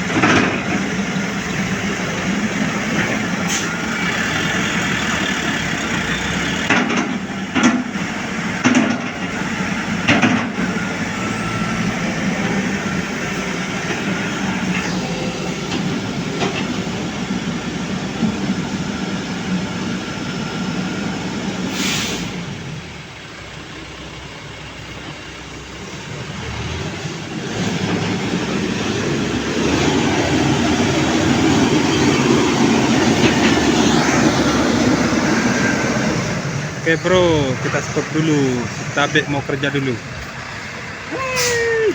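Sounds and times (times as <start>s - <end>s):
vehicle rattling rumble: 0.0s - 41.9s.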